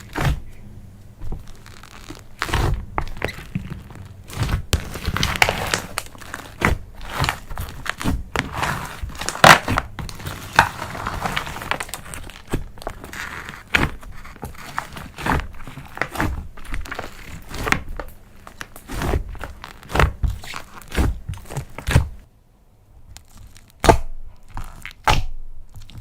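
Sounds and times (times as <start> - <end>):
slime crinkling and crackling: 0.0 - 22.3, 23.0 - 26.0.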